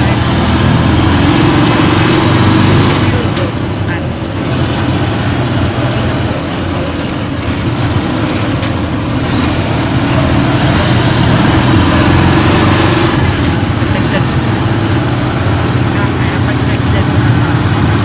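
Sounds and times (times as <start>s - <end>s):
vehicle engine droning inside cabin: 0.0s - 18.0s.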